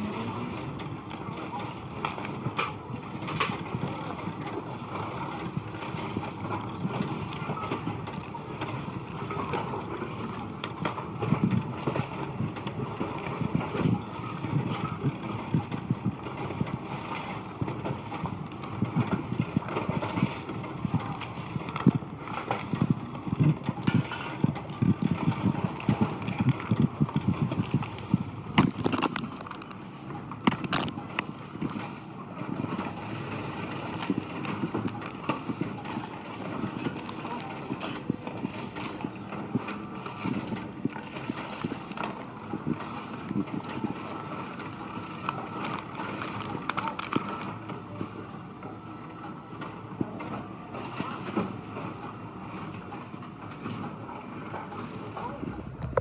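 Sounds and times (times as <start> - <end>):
machine crushing cans and bottles: 0.0 - 55.3.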